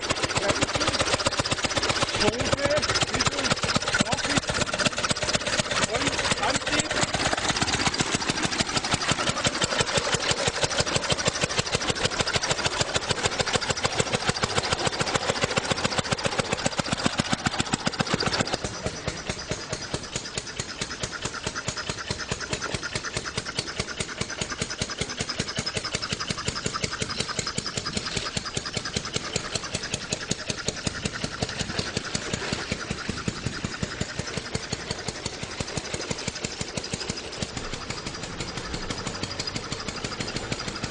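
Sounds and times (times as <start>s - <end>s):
engine running with rapid pulsing: 0.0s - 40.9s.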